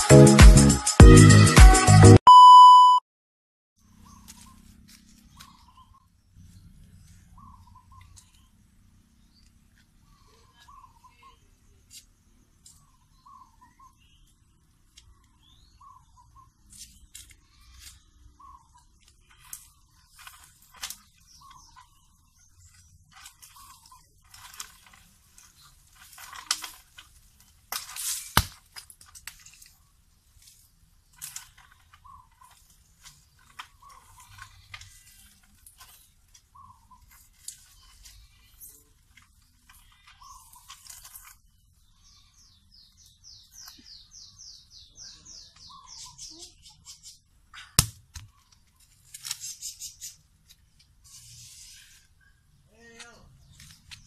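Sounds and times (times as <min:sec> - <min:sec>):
rustling and scraping of climbing: 0:03.9 - 0:46.2, 0:47.5 - 0:54.0.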